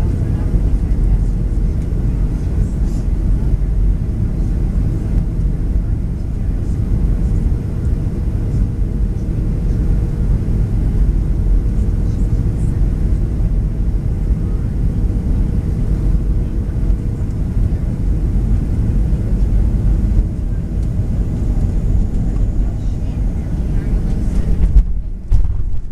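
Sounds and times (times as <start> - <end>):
faint steady hum: 0.0 - 25.9
jet engine rumble in cabin: 0.0 - 25.9.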